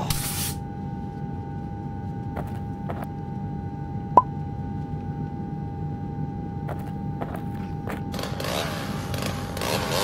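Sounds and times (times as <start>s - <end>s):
steady hum: 0.0s - 8.5s.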